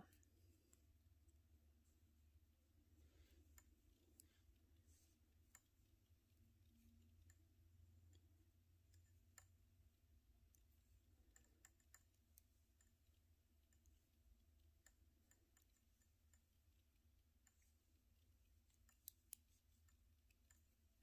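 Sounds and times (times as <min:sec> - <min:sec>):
knitting needles clicking: 0:00.0 - 0:21.0.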